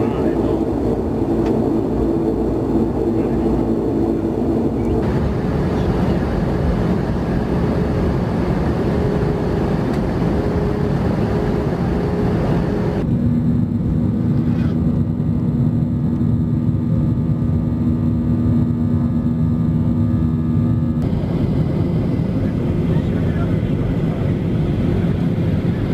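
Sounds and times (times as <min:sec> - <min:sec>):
airliner cabin air rush and engine hum: 0:00.0 - 0:25.9
airliner cabin low drone: 0:00.0 - 0:25.9.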